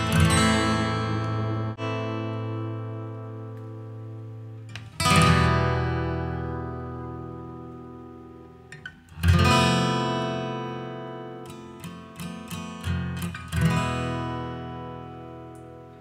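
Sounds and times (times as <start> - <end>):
acoustic guitar strumming and picking: 0.0 - 16.0.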